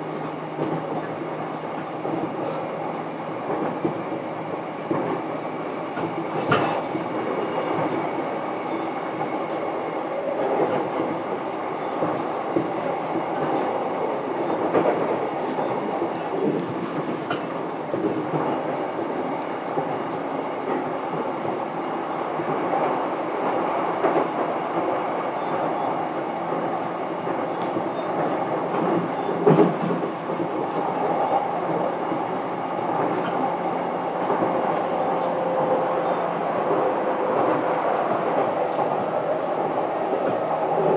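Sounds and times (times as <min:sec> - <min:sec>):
train wheels and motors rumbling: 0:00.0 - 0:40.9
rail joint clicks: 0:03.4 - 0:40.9.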